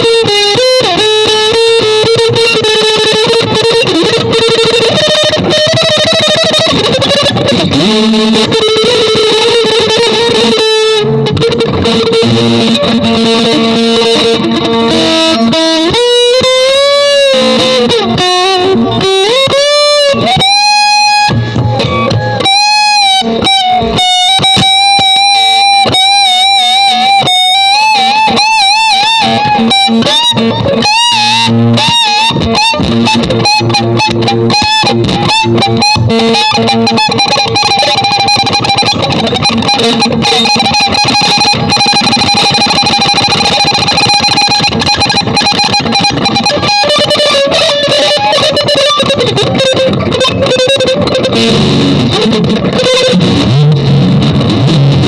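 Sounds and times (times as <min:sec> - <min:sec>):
electric guitar lead notes: 0:00.0 - 0:55.0.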